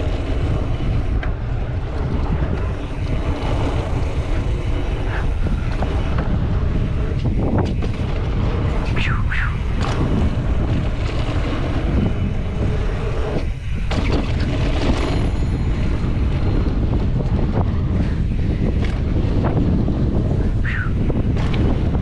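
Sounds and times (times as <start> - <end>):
tyres rolling on dirt: 0.0 - 9.0, 9.6 - 22.0
bike rattling over bumps: 0.0 - 22.0
wind buffeting microphone: 0.0 - 22.0.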